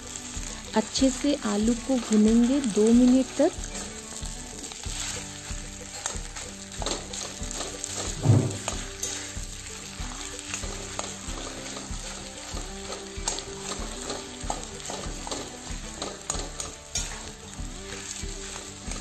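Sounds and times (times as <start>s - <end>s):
light sizzle: 0.0s - 19.0s
spatula scraping and knocking pan: 0.2s - 19.0s.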